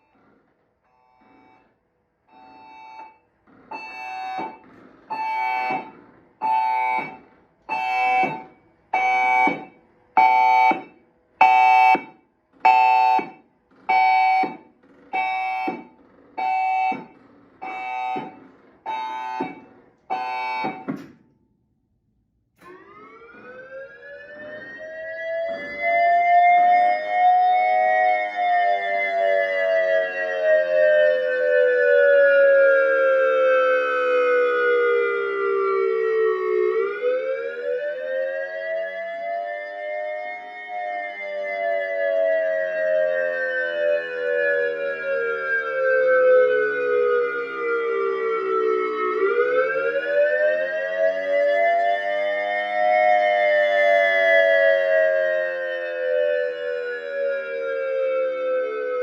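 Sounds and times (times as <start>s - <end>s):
electronic siren horn blasts: 0.0s - 21.0s, 22.6s - 59.0s
two-tone siren wail: 0.0s - 21.0s, 22.6s - 59.0s.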